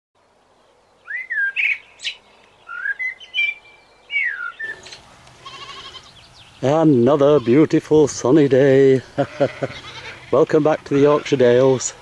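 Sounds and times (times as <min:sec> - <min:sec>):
songbird singing: 0:00.2 - 0:12.0
steady background hiss: 0:00.2 - 0:12.0.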